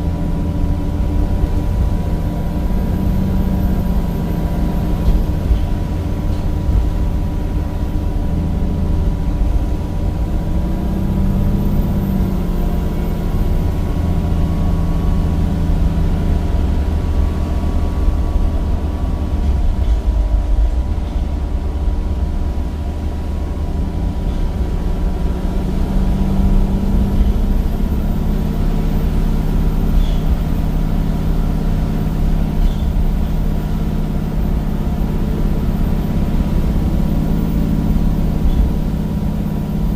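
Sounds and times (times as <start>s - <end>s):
bus diesel engine revving: 0.0s - 39.9s.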